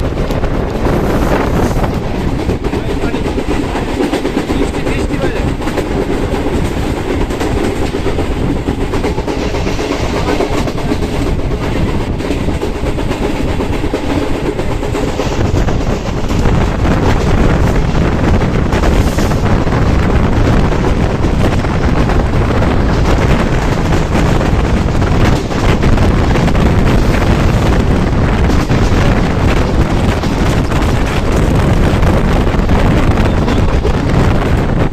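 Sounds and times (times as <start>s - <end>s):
diesel train passing at speed: 0.0s - 34.9s.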